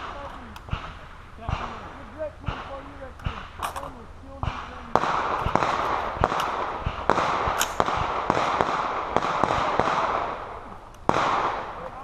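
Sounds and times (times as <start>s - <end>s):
rapid gunfire with echo: 0.0s - 3.6s, 4.4s - 12.0s.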